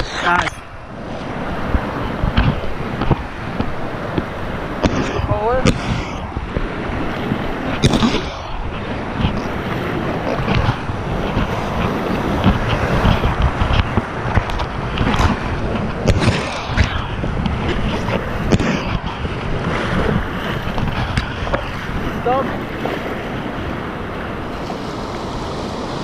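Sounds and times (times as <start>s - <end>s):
whitewater rapids roaring: 0.0s - 26.0s.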